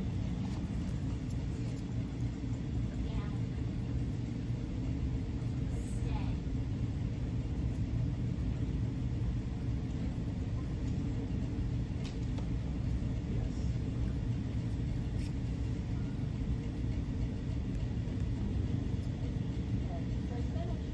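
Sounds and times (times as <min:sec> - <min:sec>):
ventilation rumble: 0:00.0 - 0:20.9.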